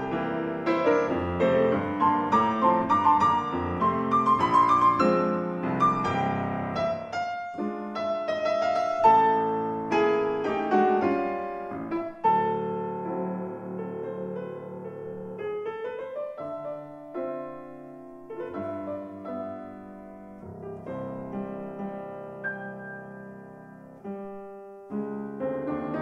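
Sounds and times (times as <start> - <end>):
piano playing a tango: 0.0 - 26.0.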